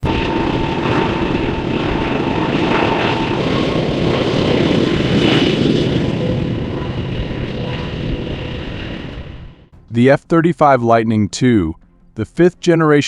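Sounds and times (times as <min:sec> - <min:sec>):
jet engine running: 0:00.0 - 0:13.0.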